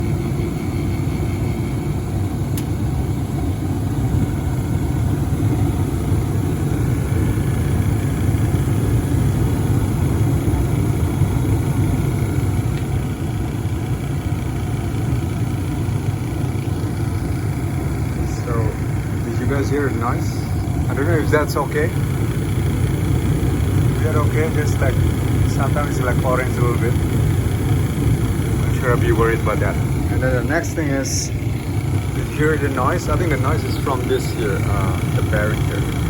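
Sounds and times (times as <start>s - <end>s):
furnace rattling vibration: 0.0s - 36.0s.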